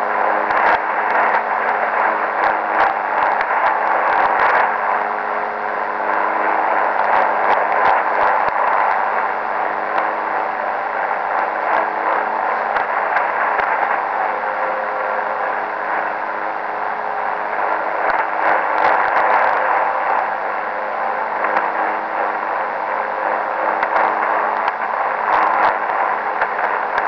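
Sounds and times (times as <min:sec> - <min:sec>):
radio crackles: 0:00.0 - 0:27.0
shortwave radio hissing rumble: 0:00.0 - 0:27.0.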